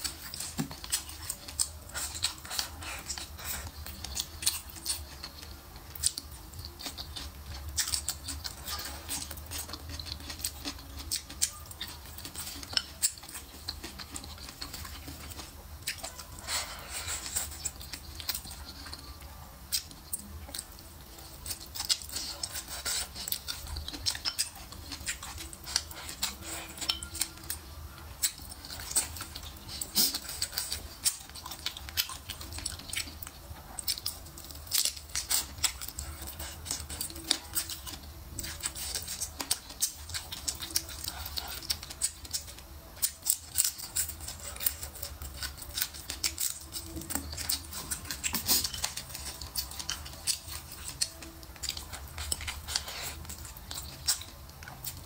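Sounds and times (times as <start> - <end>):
chewing crunches and mouth clicks: 0.0 - 55.0.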